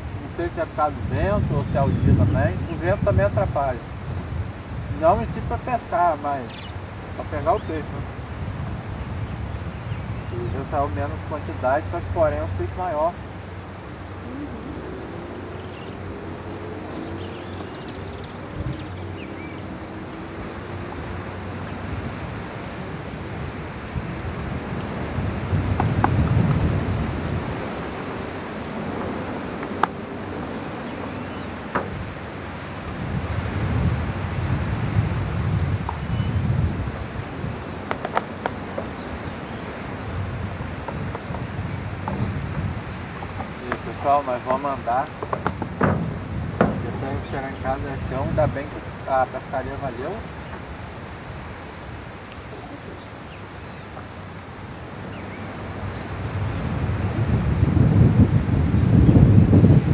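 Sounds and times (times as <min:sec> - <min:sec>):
wind on microphone: 0:00.0 - 0:54.4, 0:55.2 - 0:59.9
insects chirring: 0:00.0 - 0:59.9.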